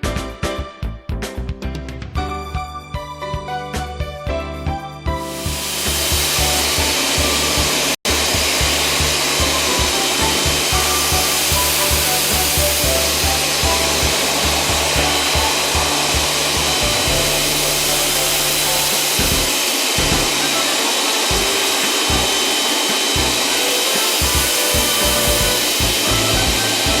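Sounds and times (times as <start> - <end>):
background music with beat: 0.0 - 27.0
pressure washer spray hiss: 5.3 - 27.0.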